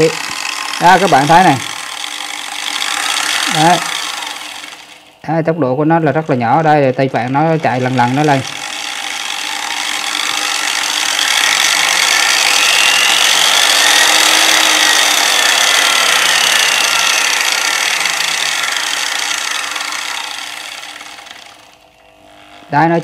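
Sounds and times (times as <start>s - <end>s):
angle grinder whine: 0.0s - 23.0s.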